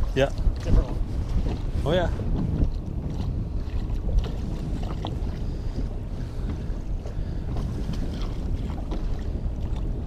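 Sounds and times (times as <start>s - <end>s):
waves lapping against hull: 0.0s - 10.0s
wind rumbling on microphone: 0.0s - 10.0s.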